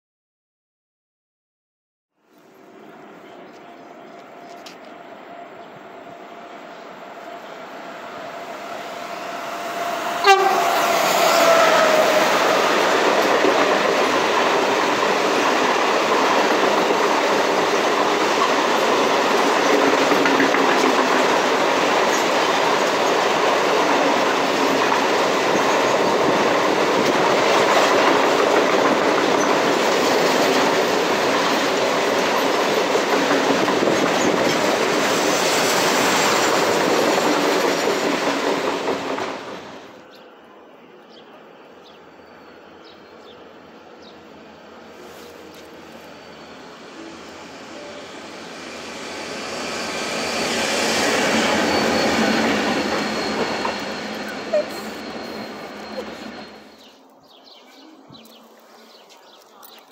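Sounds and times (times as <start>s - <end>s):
electric locomotive passing: 2.2s - 59.9s
wheels rolling on rail: 2.3s - 59.9s.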